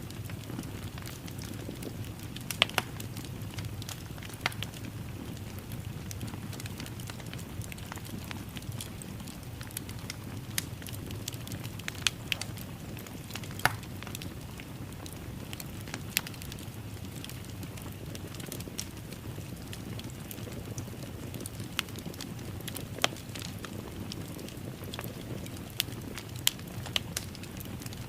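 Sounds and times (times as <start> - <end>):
fire pops and snaps: 0.0 - 28.0
low rumble of flames: 0.0 - 28.0.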